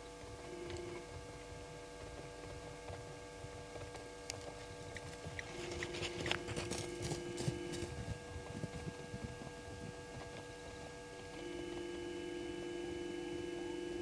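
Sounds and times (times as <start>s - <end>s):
electrical hum: 0.0s - 14.0s
faint low rumbling: 0.0s - 14.0s.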